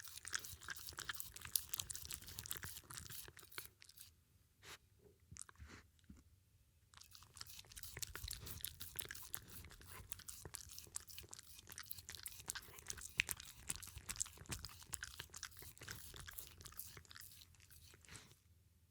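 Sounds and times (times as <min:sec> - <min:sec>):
dog crunching food: 0:00.0 - 0:04.1, 0:06.9 - 0:18.3.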